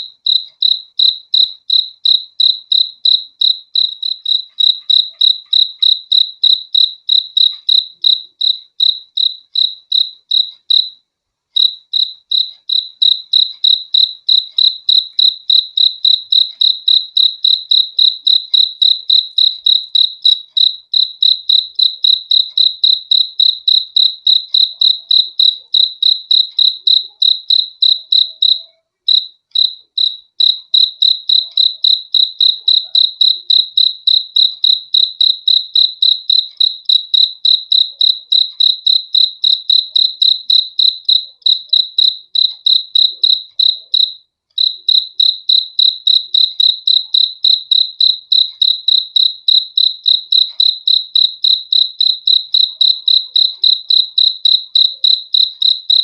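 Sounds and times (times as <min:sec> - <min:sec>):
cricket chirping: 0:00.0 - 0:11.0, 0:11.6 - 0:56.0.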